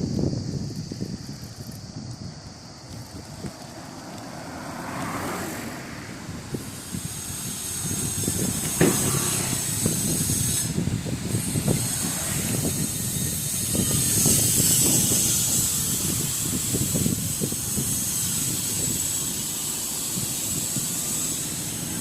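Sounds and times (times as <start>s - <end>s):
hiss: 0.0s - 22.0s
wind buffeting microphone: 0.0s - 22.0s
passing vehicle: 1.8s - 22.0s.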